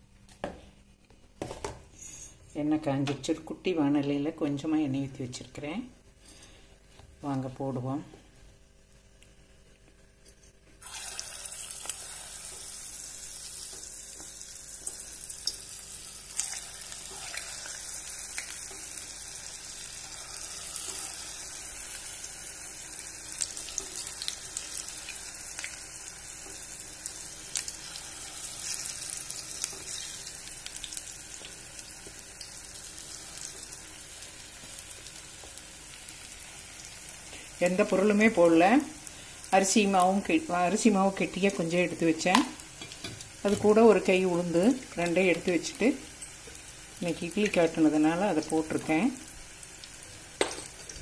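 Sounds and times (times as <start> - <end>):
batter sizzling in hot oil: 8.7 - 51.0.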